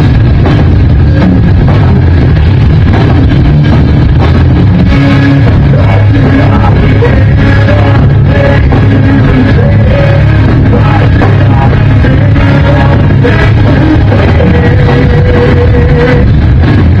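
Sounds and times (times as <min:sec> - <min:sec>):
drum kit: 0:00.0 - 0:17.0
electric guitar: 0:00.0 - 0:17.0.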